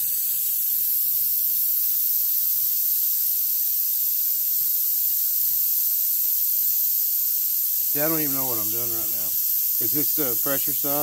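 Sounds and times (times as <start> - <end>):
refrigerant hissing: 0.0 - 11.0.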